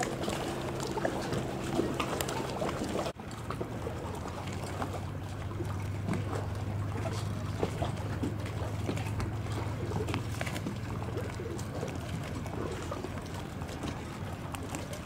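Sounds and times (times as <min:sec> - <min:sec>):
steady low hum: 0:00.0 - 0:15.0
water lapping against wooden jetty: 0:00.0 - 0:15.0.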